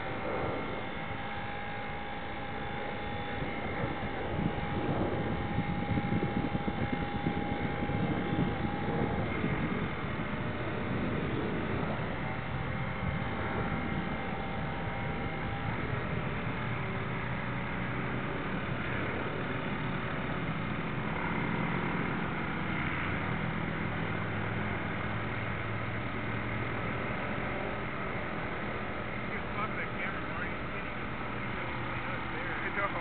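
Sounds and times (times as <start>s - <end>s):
faint steady hum: 0.0s - 33.0s
model boat motor running: 0.0s - 33.0s.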